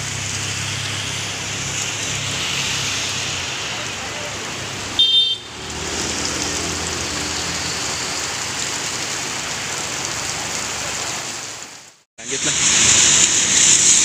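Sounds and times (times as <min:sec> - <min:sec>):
motorcycles passing: 0:00.0 - 0:11.3
heavy rain on wet road: 0:00.0 - 0:14.0.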